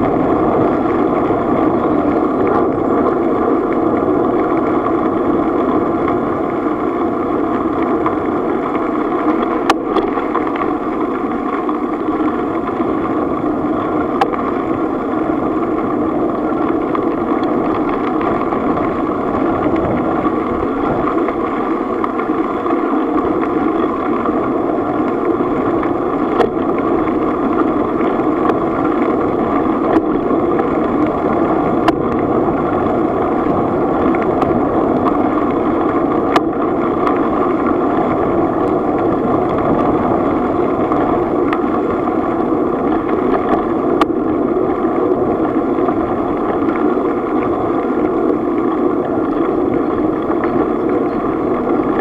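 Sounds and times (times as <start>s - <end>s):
bicycle tyres rolling on gravel: 0.0s - 52.0s.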